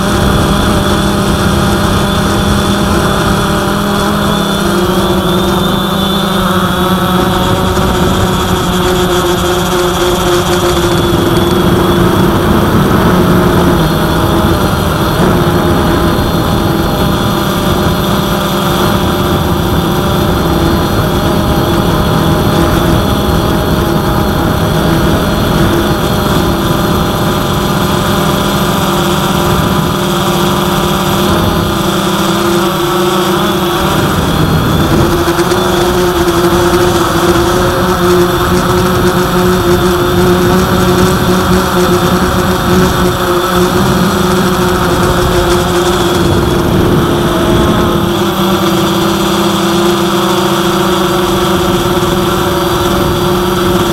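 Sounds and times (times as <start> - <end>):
drone motors whining: 0.0 - 53.9
wind buffeting microphone: 0.0 - 53.9.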